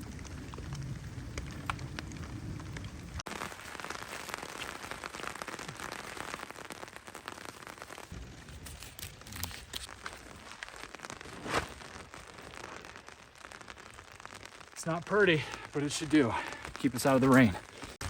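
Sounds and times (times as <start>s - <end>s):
rain pattering on surfaces: 0.0s - 18.0s.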